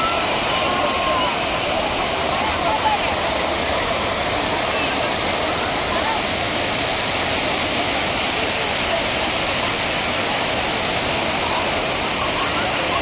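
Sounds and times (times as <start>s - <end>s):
stream water rushing over rocks: 0.0s - 13.0s.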